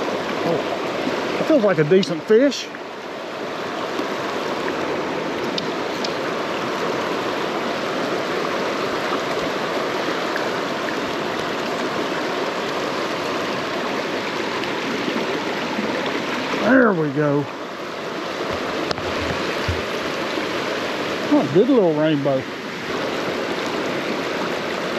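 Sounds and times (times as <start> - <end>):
stream rushing over stones: 0.0 - 24.9.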